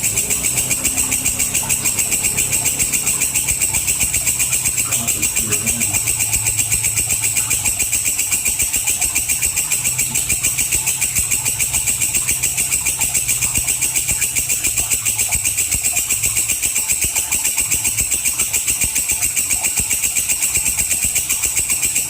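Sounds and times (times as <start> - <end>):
bush cricket calling: 0.0 - 22.0.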